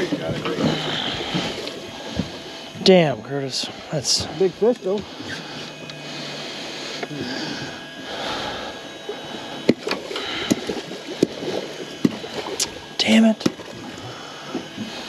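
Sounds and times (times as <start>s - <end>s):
low steady hum: 0.0s - 15.0s
water and wind hiss: 0.0s - 15.0s.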